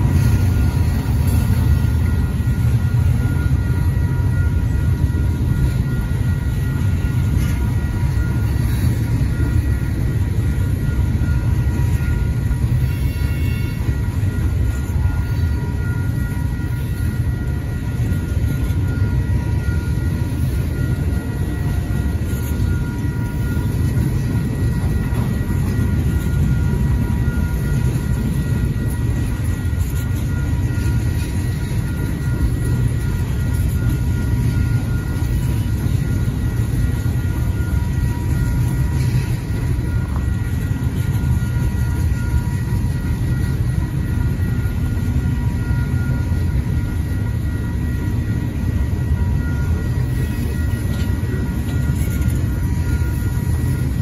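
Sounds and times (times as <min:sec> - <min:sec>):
crossing bell ringing: 0:00.0 - 0:54.0
train wheels rumbling on rail: 0:00.0 - 0:54.0.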